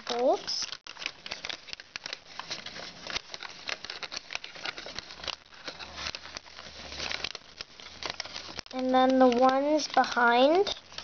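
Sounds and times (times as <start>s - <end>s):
foil paper crinkling: 0.0s - 11.0s.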